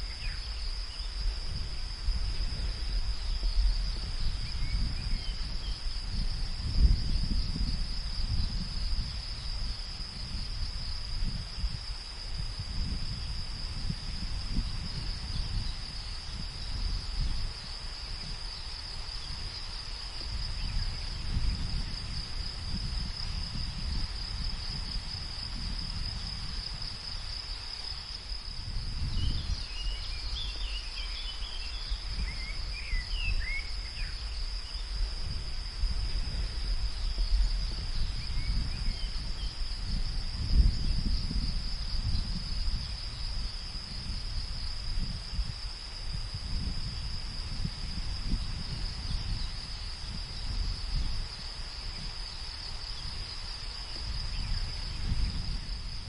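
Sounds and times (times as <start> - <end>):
high-pitched insect chorus: 0.0 - 56.0
wind rumble: 0.0 - 56.0.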